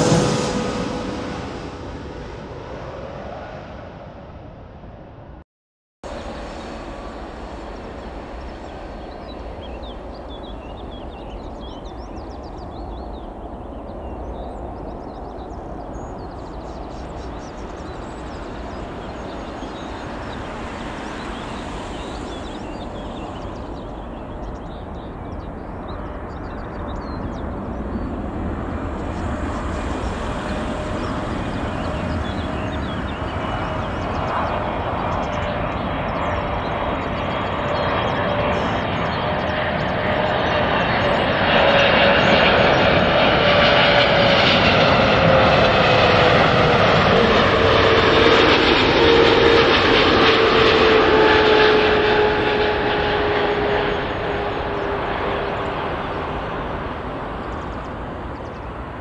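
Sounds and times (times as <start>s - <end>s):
jet engine rumble: 0.0s - 5.4s, 6.1s - 59.0s.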